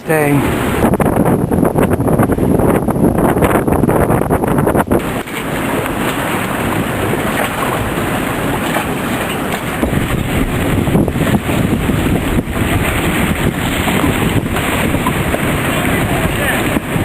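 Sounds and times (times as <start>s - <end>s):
strong storm wind: 0.0s - 17.0s
wind buffeting microphone: 0.0s - 17.0s.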